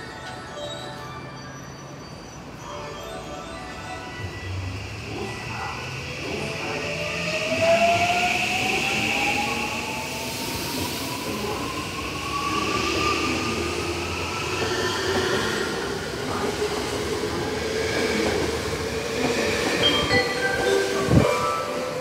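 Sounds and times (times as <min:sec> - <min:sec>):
rumble of train cars: 0:00.0 - 0:22.0.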